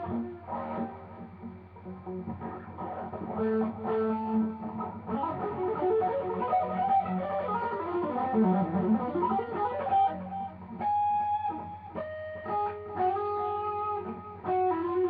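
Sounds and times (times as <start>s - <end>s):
overdriven electric guitar lead: 0.0s - 15.0s.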